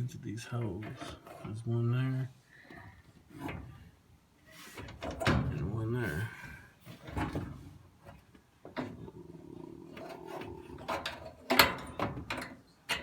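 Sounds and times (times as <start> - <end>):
sheet metal scraping and rattling: 0.0 - 2.0, 2.6 - 9.1, 9.9 - 13.0.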